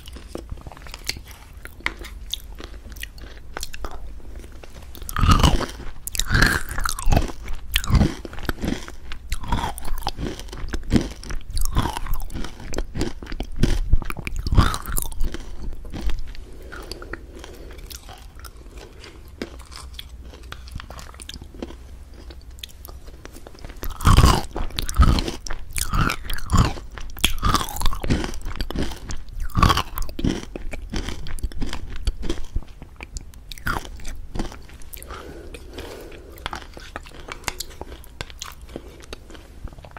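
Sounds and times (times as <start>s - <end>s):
crunchy biting and chewing: 0.0s - 39.9s.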